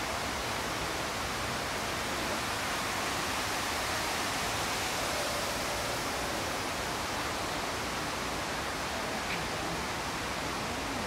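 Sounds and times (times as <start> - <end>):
indoor waterfall rushing: 0.0 - 11.0.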